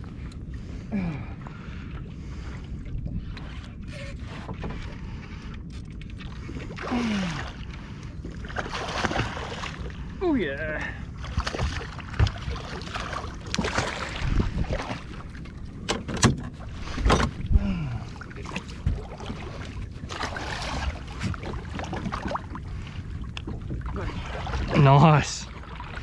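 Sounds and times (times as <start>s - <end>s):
water around boat hull: 0.0s - 26.0s
wind: 0.0s - 26.0s.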